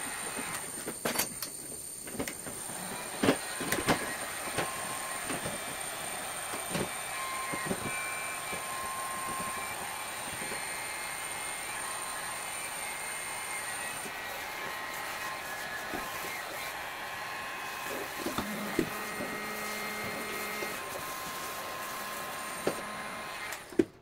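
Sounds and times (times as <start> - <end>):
heat gun airy hiss and whine: 0.0 - 23.7.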